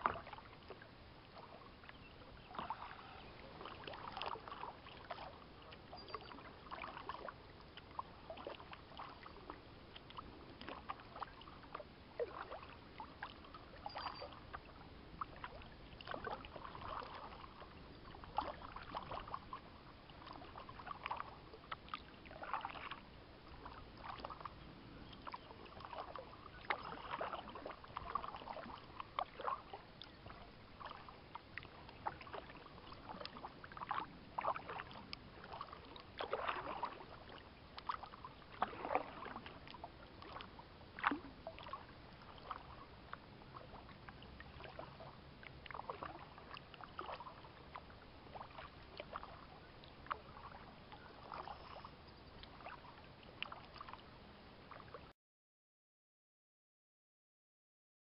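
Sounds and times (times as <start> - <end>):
paddle splashing in water: 0.0 - 55.1.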